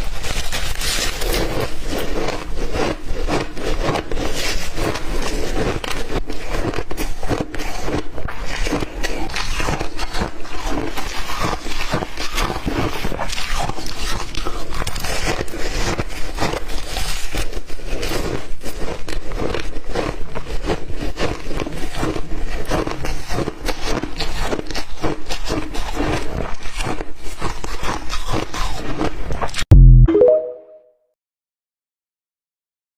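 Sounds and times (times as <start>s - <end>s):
ice being chewed: 0.0s - 29.6s.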